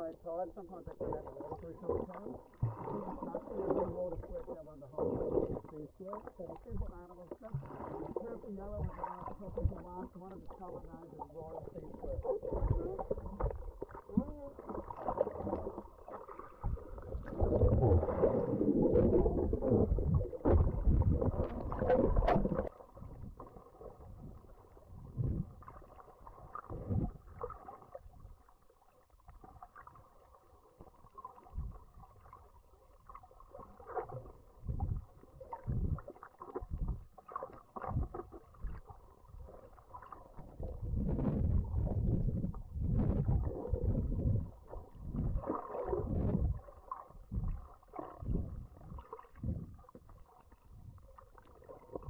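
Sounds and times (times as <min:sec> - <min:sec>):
muffled water sloshing underwater: 0:00.0 - 0:52.0.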